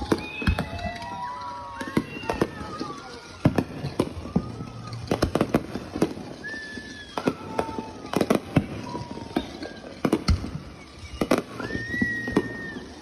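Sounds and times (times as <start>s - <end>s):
fireworks bangs and crackles: 0.0s - 13.0s
fireworks whistling: 0.0s - 13.0s.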